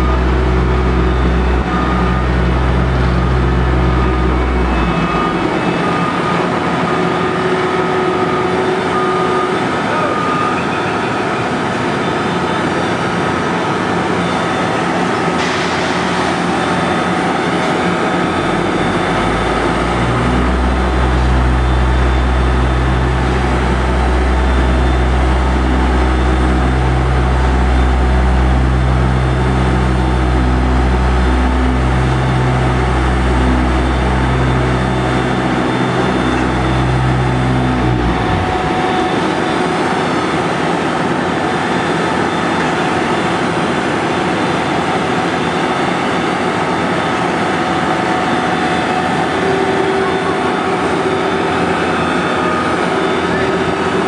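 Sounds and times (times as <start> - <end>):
diesel engine running with whine: 0.0 - 54.0.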